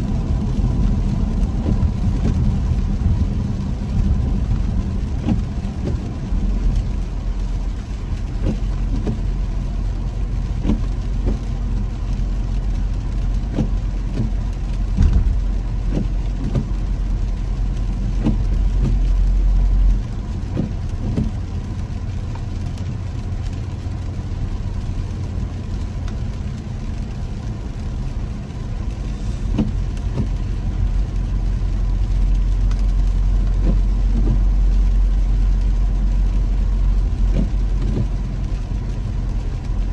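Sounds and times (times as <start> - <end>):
raindrops tapping windshield: 0.0 - 39.9
tyre and engine rumble: 0.0 - 39.9.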